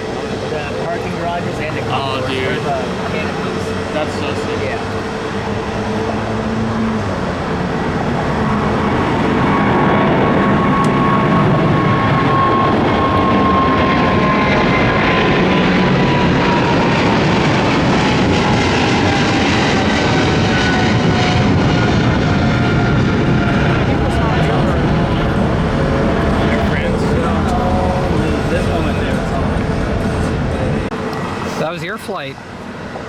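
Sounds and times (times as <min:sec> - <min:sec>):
jet airliner engines passing: 0:00.0 - 0:33.0.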